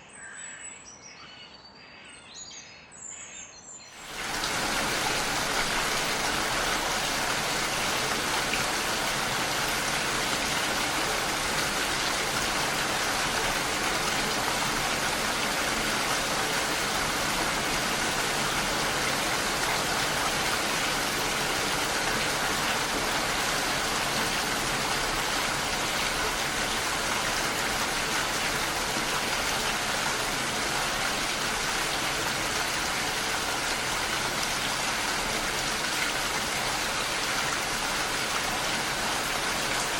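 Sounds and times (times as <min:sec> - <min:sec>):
rain falling: 0:04.0 - 0:39.9.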